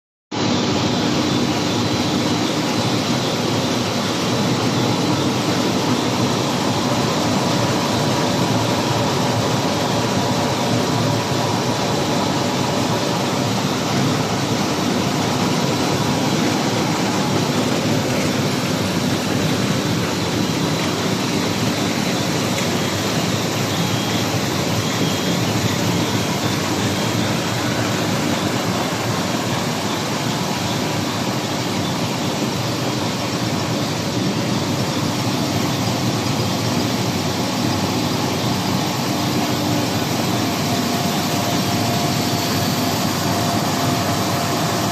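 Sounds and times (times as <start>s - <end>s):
paper machine running: 1.3s - 44.9s.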